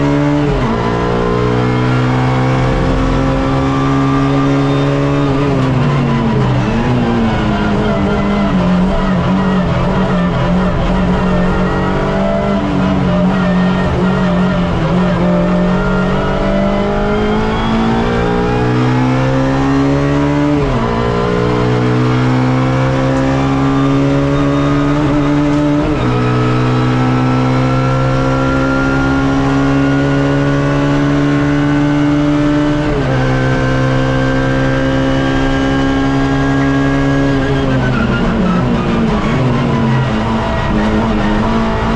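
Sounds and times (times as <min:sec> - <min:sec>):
race car engine accelerating: 0:00.0 - 0:41.9.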